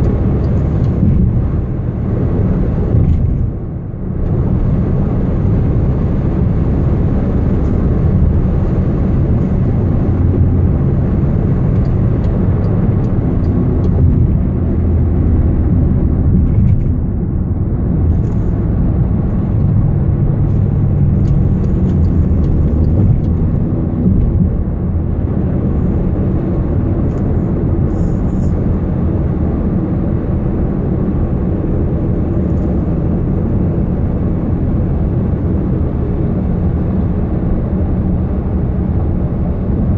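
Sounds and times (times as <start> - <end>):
car interior rumbling drone: 0.0 - 39.9.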